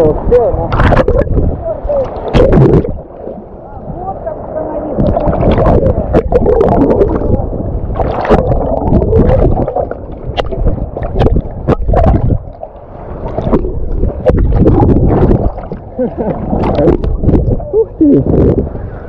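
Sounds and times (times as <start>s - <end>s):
sea waves surging and sloshing: 0.0s - 19.0s
water splashing and gurgling: 0.0s - 19.0s.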